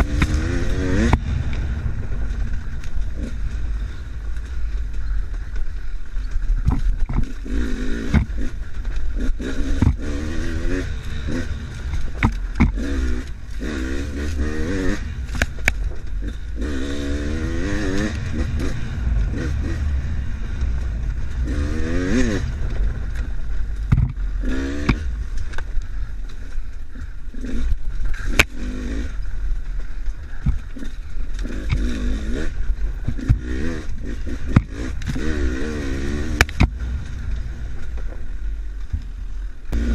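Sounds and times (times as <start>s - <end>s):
sharp knocks and clatter: 0.0s - 26.8s, 33.0s - 39.1s
motorcycle engine revving: 0.0s - 39.9s.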